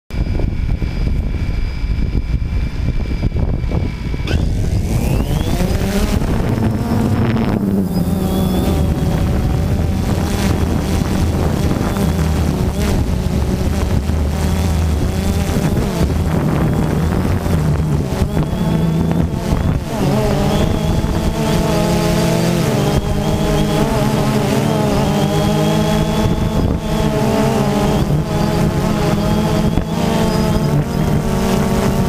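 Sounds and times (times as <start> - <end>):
quadcopter motors buzzing: 0.1 - 32.0.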